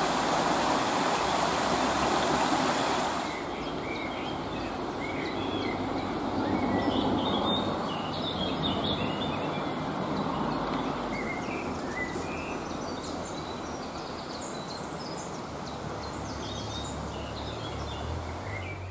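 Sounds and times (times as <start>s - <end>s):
distant road traffic: 0.0s - 18.9s
small birds chirping: 3.1s - 18.9s.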